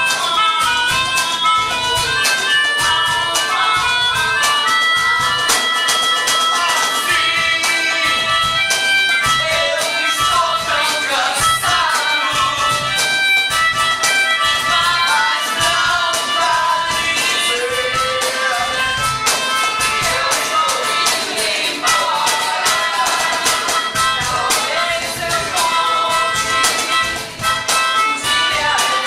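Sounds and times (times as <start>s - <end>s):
quick percussion beat: 0.0s - 29.0s
wavering melody: 0.0s - 29.0s.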